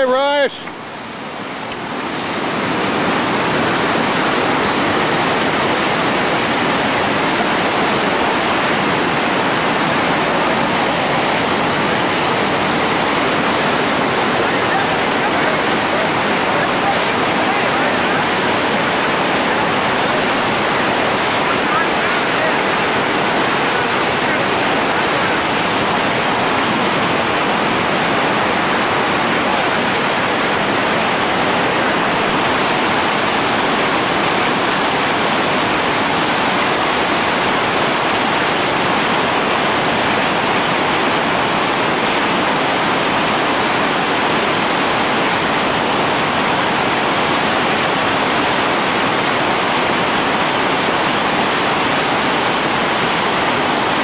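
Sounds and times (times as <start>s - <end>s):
whitewater rapids rushing: 0.0s - 54.0s.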